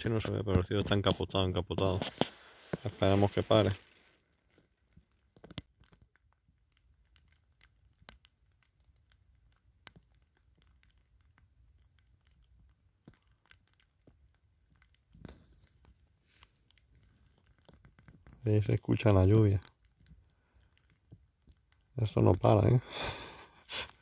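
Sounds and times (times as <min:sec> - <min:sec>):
light raindrops ticking: 0:00.0 - 0:24.0.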